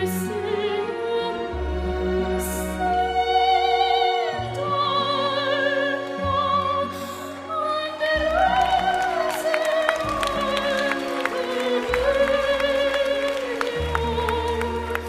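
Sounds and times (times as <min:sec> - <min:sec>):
girl singing opera: 0:00.0 - 0:15.0
orchestral backing music: 0:00.0 - 0:15.0.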